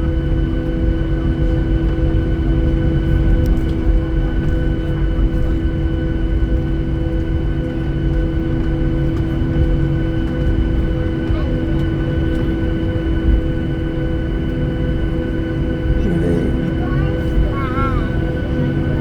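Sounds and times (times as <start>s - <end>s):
jet engines humming: 0.1s - 19.0s.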